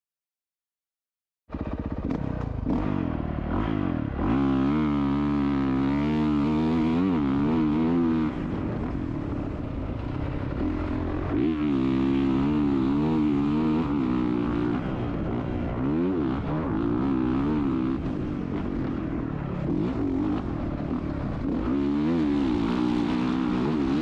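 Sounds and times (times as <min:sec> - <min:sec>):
motorcycle engine revving: 0:01.5 - 0:24.0.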